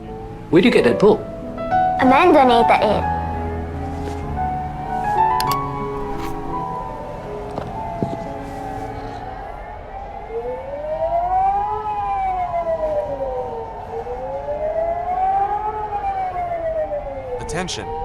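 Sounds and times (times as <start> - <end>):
civil defence siren wailing: 0.0 - 18.0
steady siren tones: 3.4 - 18.0.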